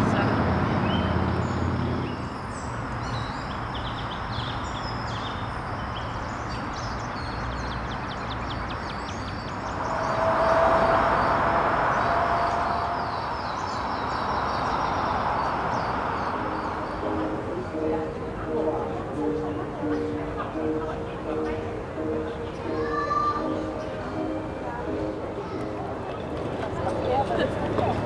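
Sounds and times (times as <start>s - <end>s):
passing vehicle whine: 0.0s - 3.8s, 7.8s - 28.0s
traffic hum: 0.0s - 28.0s.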